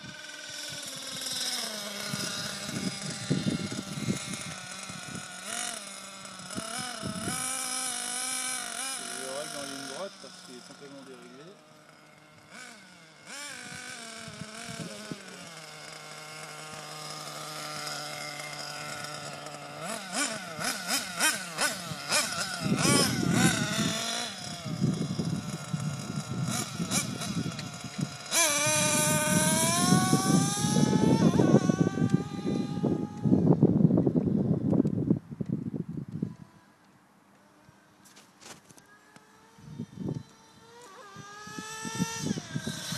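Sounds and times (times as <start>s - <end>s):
wind rumble on microphone: 0.0s - 8.6s, 13.5s - 36.7s, 39.5s - 42.9s
model car engine whining: 0.0s - 42.9s.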